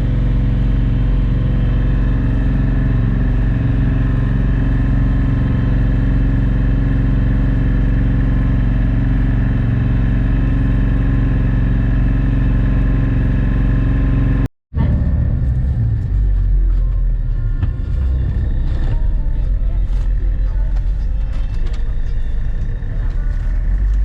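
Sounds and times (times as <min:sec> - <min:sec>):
ferry engine droning: 0:00.0 - 0:24.0.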